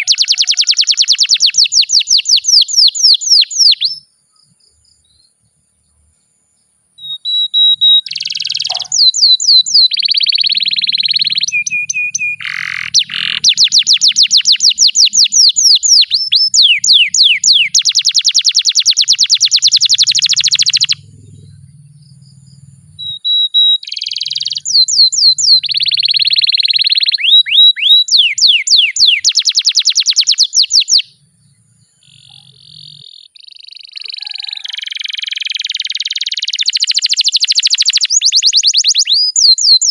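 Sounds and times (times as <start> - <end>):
canary singing trills: 0.0 - 6.1, 6.7 - 39.9.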